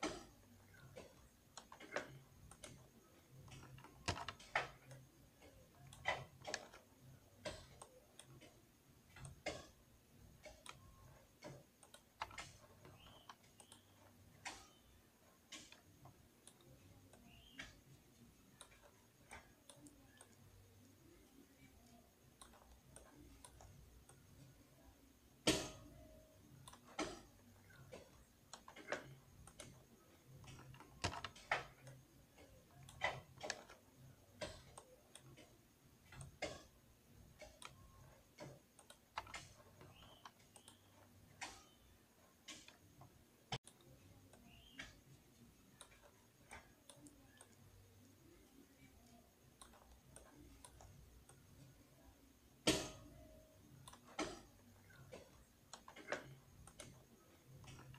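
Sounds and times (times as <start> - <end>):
computer keyboard and mouse clicks: 0.0 - 57.9.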